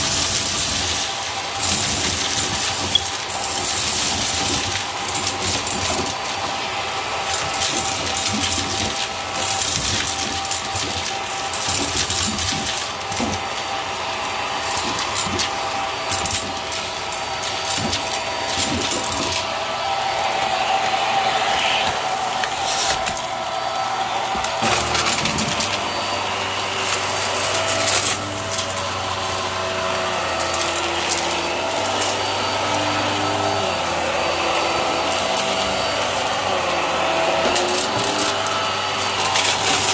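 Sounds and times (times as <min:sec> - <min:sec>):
small pieces rattling through hose: 0:00.0 - 0:19.6, 0:24.3 - 0:39.9
vacuum cleaner motor hum: 0:00.0 - 0:39.9.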